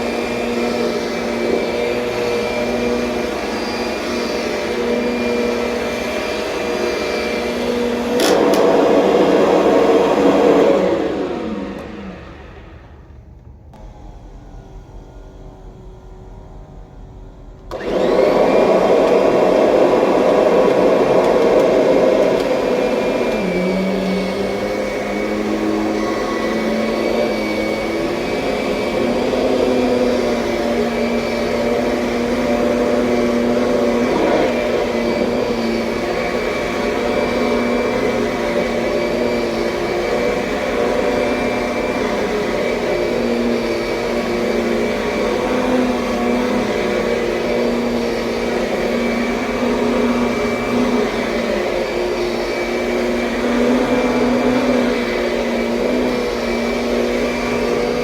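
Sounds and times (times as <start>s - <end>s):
upright vacuum cleaner running: 0.0s - 58.0s.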